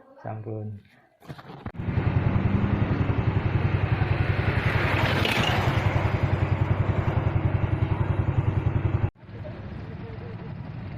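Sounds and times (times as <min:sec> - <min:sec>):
small engine idling: 0:01.7 - 0:10.9.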